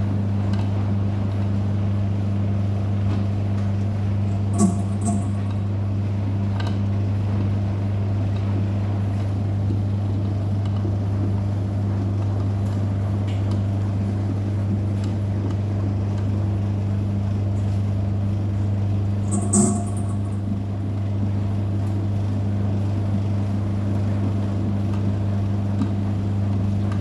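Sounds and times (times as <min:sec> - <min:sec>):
washing machine motor hum: 0:00.0 - 0:27.0.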